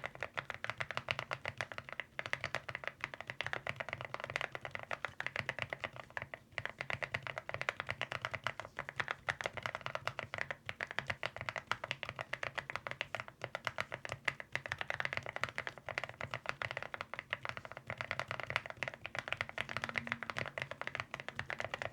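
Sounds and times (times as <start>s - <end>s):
fast mechanical keyboard typing: 0.0s - 21.9s.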